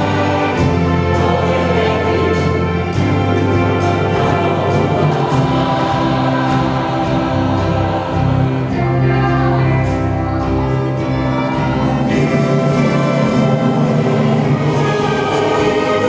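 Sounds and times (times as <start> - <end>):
church choir singing: 0.0 - 16.0
orchestra accompaniment: 0.0 - 16.0.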